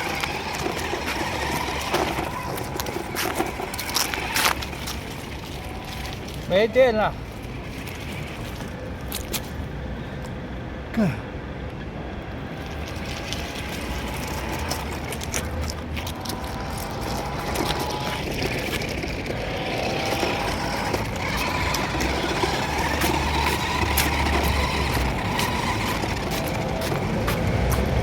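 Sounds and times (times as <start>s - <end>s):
small electric motor whining: 0.0s - 9.2s, 12.3s - 28.0s
toy car rumbling and rattling: 0.0s - 9.6s, 12.2s - 28.0s.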